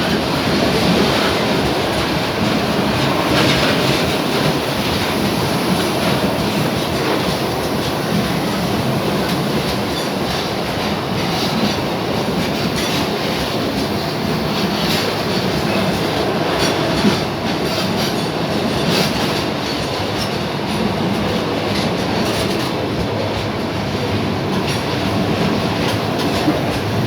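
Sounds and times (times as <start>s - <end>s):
freight wagons rumbling on rails: 0.0s - 27.0s
wheels clacking over rail joints: 0.0s - 27.0s.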